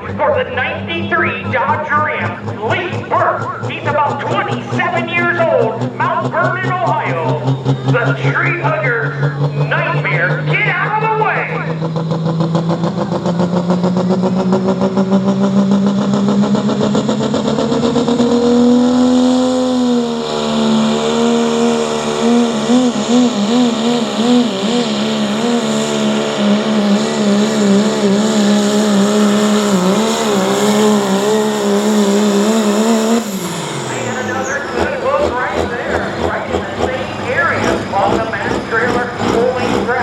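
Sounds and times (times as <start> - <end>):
diesel pickup engine at full power: 0.0 - 40.0.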